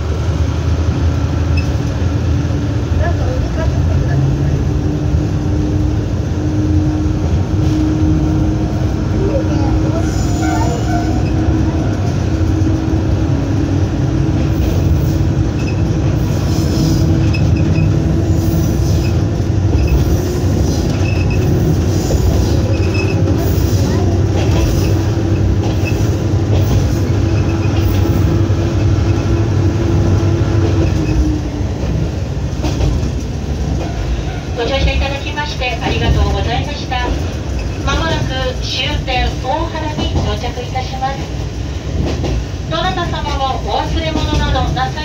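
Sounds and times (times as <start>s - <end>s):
wheel and rail noise: 0.0s - 45.0s.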